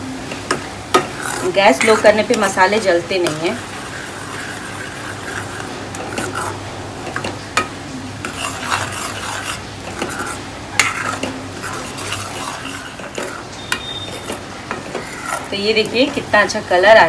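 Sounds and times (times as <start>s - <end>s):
paste sizzling: 0.4s - 16.8s
spoon stirring thick paste: 0.5s - 16.8s.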